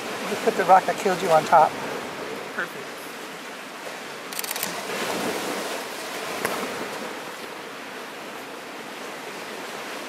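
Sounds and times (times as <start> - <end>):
small waves washing on rocks: 0.0 - 10.0.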